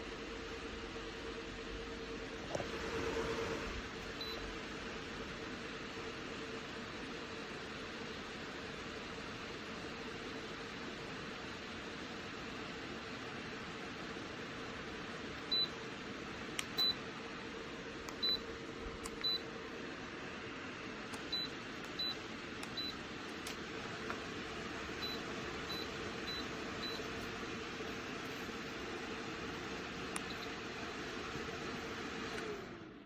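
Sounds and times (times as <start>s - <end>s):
fan heater whirring: 0.0s - 33.0s.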